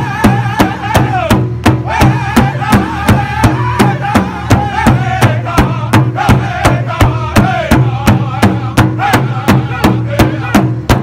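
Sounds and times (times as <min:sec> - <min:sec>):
large drum beating in unison: 0:00.0 - 0:11.0
men singing high-pitched: 0:00.0 - 0:11.0.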